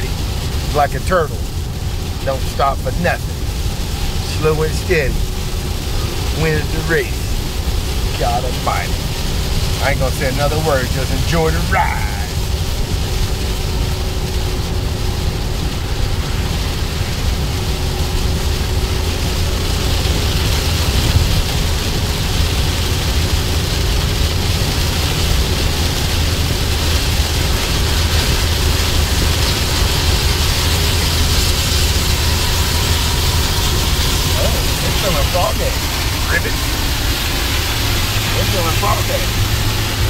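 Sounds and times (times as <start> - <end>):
car road and engine rumble: 0.0 - 40.0
rain on car: 0.0 - 40.0
tyres hissing on wet road: 0.0 - 40.0.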